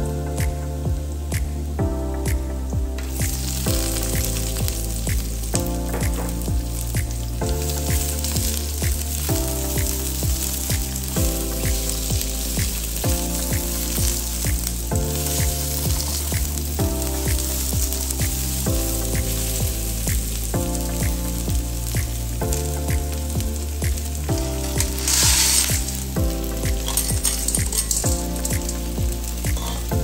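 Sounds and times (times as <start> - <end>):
background music with a beat: 0.0 - 30.0
onion and garlic sizzling in oil: 2.6 - 30.0.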